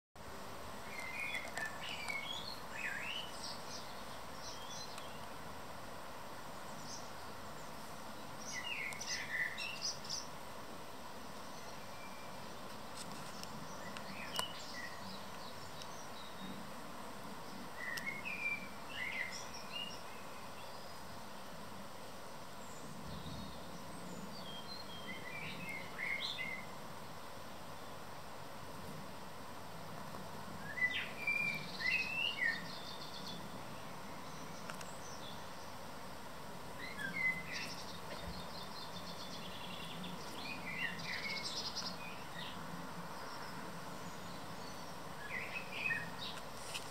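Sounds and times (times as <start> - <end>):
outdoor background hiss: 0.2 - 46.9
small birds chirping: 0.8 - 5.6, 6.4 - 10.4, 11.2 - 28.2, 29.8 - 46.9.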